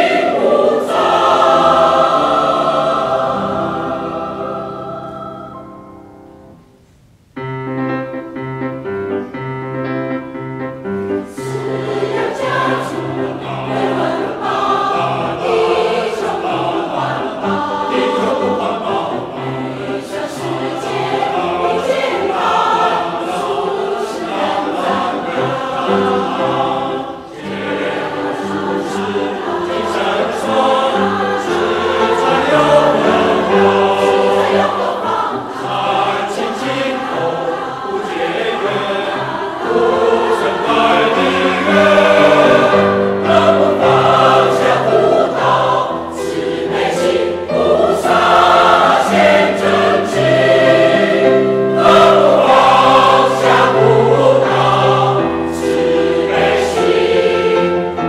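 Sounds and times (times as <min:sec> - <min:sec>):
mixed choir singing: 0:00.0 - 0:06.6, 0:11.1 - 0:58.0
grand piano: 0:00.0 - 0:58.0.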